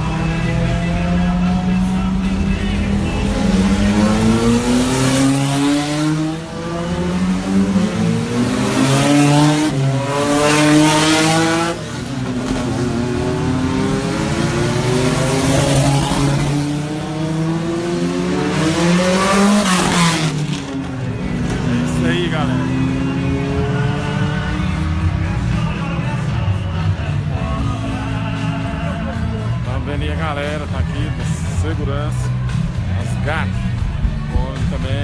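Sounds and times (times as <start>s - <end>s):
race cars passing at speed: 0.0s - 29.8s.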